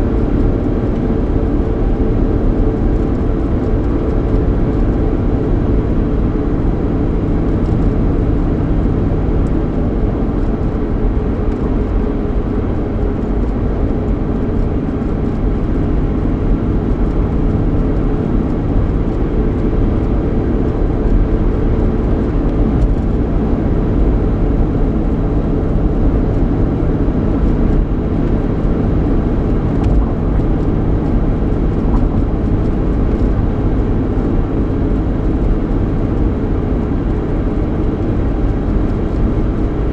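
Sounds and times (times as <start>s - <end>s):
engine hum: 0.0s - 39.9s
road and tyre rumble: 0.0s - 39.9s.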